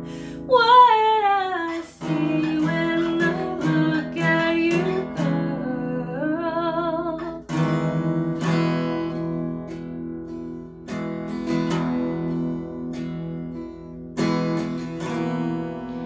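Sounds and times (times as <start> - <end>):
acoustic guitar strummed slowly: 0.0 - 16.0.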